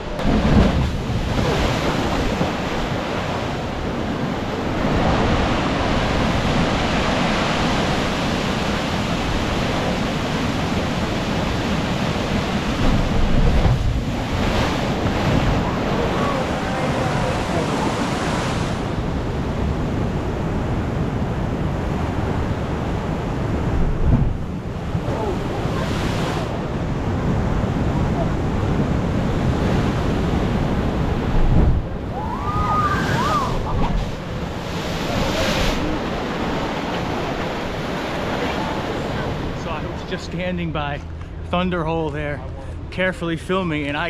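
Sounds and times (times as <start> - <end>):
wind buffeting microphone: 0.0 - 40.1
ocean surf breaking on rocks: 0.0 - 42.2.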